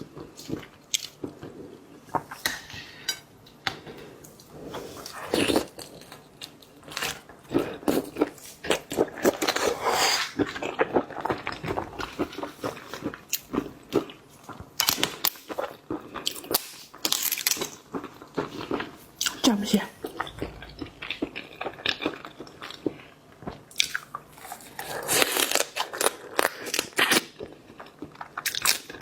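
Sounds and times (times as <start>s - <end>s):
chewing and crunching shrimp: 0.0s - 29.0s.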